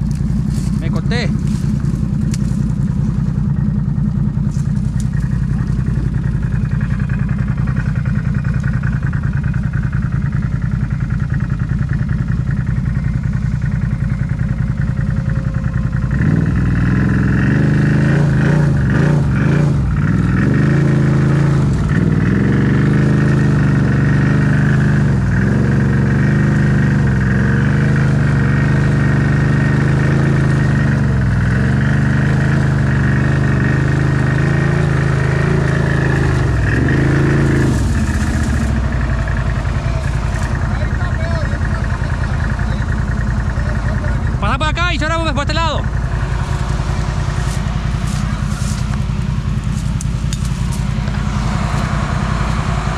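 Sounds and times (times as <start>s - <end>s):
off-road vehicle engine revving: 0.0s - 52.9s.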